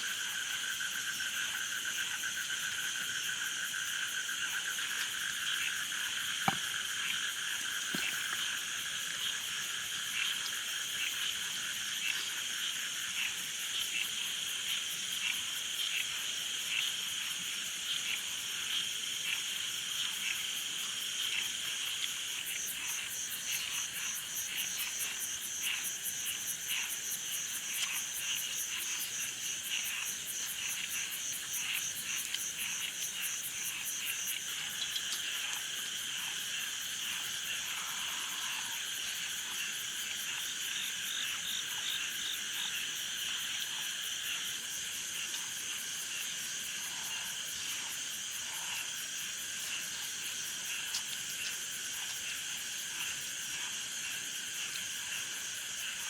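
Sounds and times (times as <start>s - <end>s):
frogs and insects trilling: 0.0s - 56.0s.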